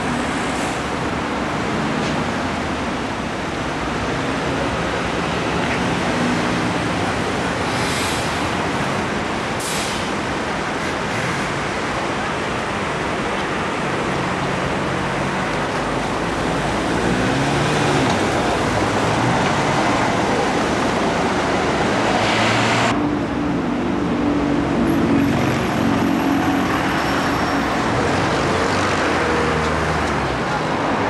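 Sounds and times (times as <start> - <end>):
vehicle engines passing: 0.0 - 31.0.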